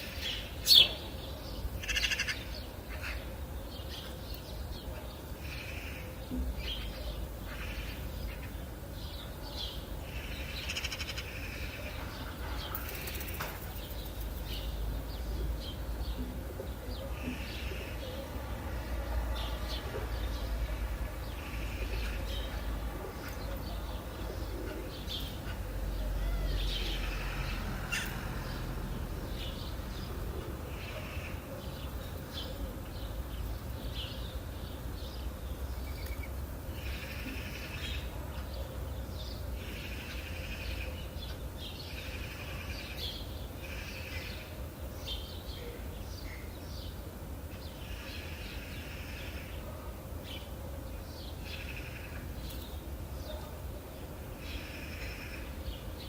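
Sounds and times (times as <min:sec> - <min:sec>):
low outdoor rumble: 0:00.0 - 0:56.0
songbirds chirping and trilling: 0:00.0 - 0:56.0.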